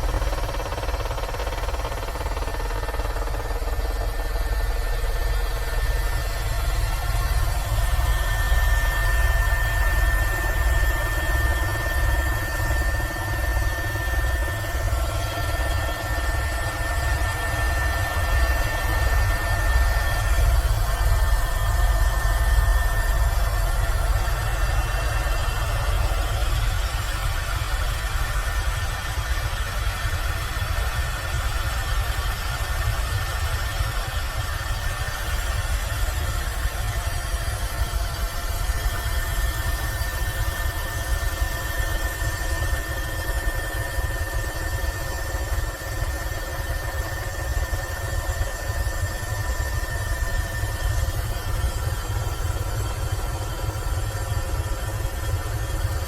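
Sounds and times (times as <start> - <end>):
helicopter rotor throb: 0.0 - 56.0
high turbine whine: 0.0 - 56.0.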